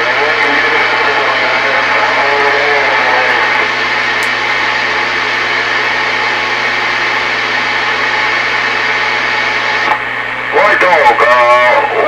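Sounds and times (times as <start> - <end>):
low hum: 0.0 - 10.8
radio static hiss: 0.0 - 12.0.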